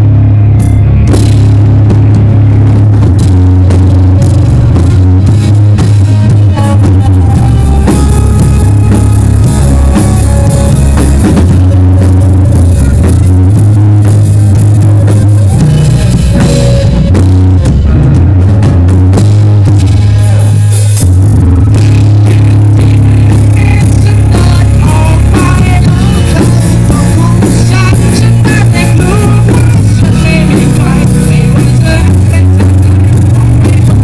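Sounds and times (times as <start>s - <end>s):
low bass notes: 0.0s - 34.0s
rock band playing live: 0.0s - 34.0s
steady drumming: 0.0s - 34.0s.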